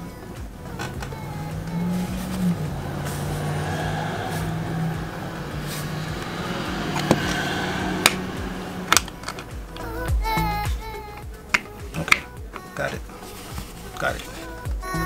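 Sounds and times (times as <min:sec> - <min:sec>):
low hum: 0:00.0 - 0:14.8.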